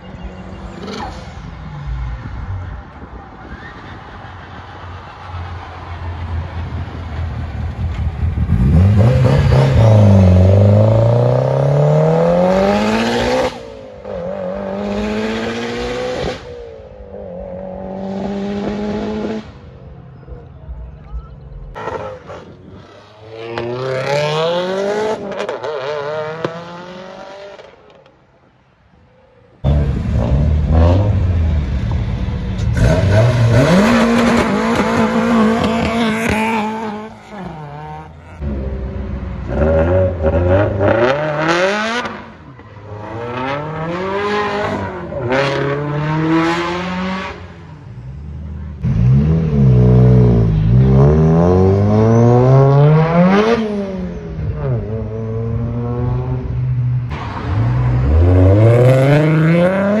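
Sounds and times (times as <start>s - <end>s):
car engines revving and accelerating: 0.0s - 60.0s.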